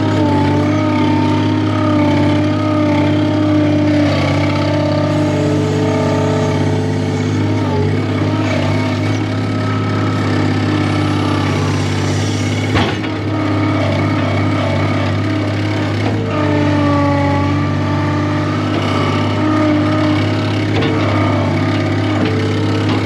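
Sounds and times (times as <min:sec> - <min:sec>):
skid steer engine running: 0:00.0 - 0:23.0
whining tones: 0:00.0 - 0:23.0.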